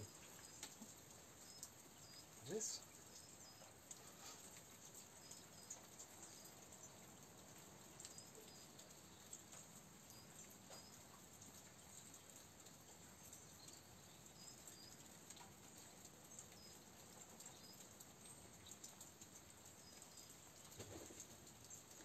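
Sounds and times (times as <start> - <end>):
light ticks: 0.1 - 2.3, 3.1 - 22.0.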